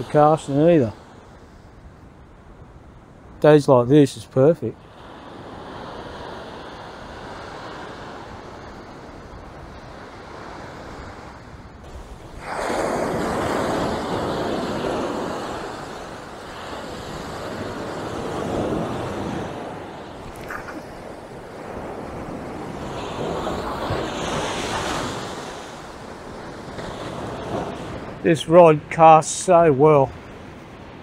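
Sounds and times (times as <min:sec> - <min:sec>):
ocean surf on beach: 0:00.0 - 0:31.0.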